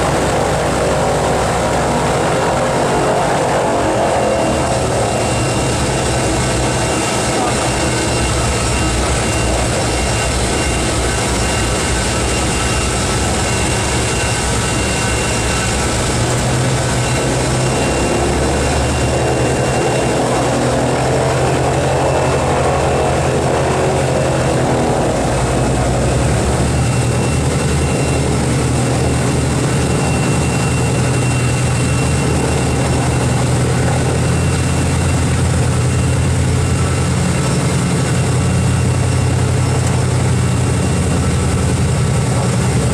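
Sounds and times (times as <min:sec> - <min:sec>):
propeller engines droning: 0:00.0 - 0:42.9.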